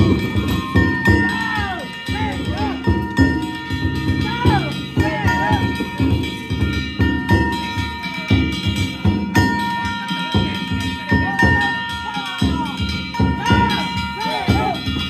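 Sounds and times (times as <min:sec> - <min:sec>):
hand-held gongs ringing: 0:00.0 - 0:15.0
voices calling out: 0:00.0 - 0:15.0.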